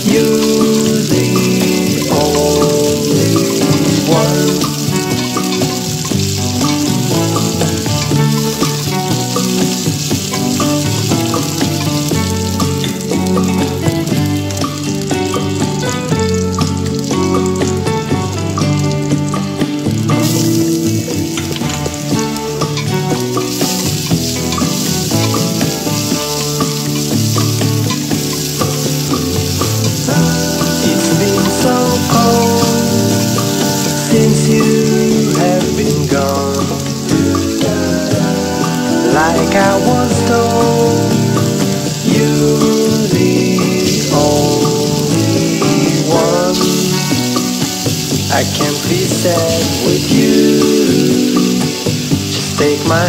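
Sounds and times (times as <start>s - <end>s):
background music: 0.0s - 53.0s
garlic and onion sizzling in oil: 0.0s - 53.0s.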